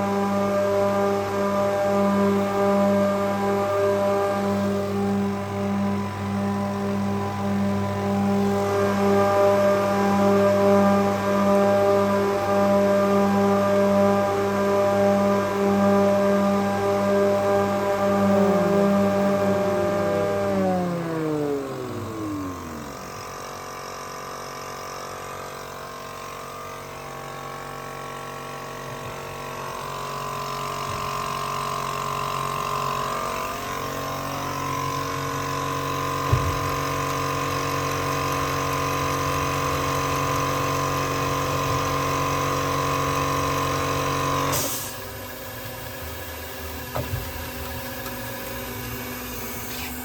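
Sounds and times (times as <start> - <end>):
electric motors humming: 0.0 - 50.0.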